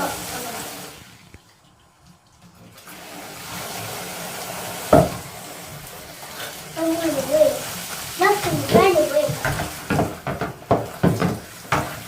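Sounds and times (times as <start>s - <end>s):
running water from shower: 0.0s - 12.0s.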